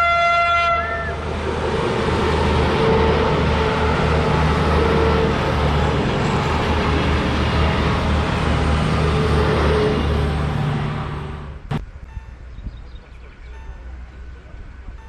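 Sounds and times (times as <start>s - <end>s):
diesel railcar engine drone: 0.0s - 15.0s
wheels rushing on rails: 0.0s - 15.0s.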